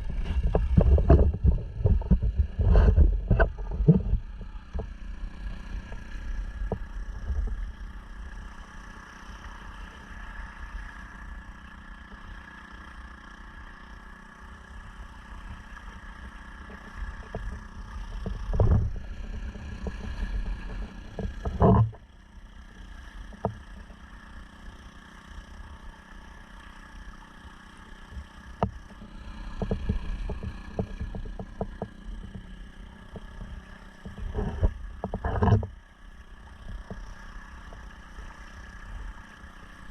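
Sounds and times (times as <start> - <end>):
water noise: 0.0 - 11.4, 13.5 - 39.9
outboard motor running: 0.0 - 39.9.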